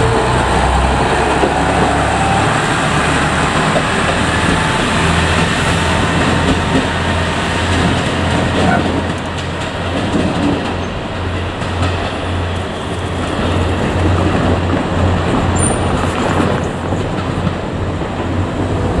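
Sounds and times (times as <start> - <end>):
diesel railcar engine: 0.0 - 19.0
wheels rolling on rails: 0.0 - 19.0.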